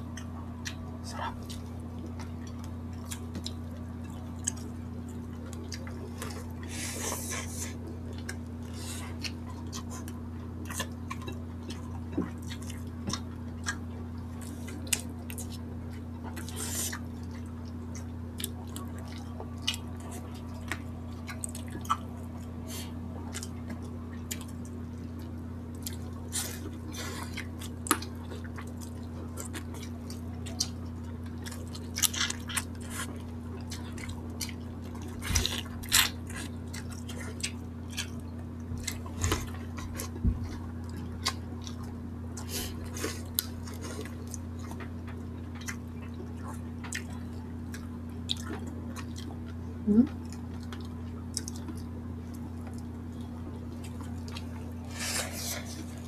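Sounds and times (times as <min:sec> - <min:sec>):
steady low hum: 0:00.0 - 0:56.0
wet chewing and lip smacks: 0:00.1 - 0:56.0.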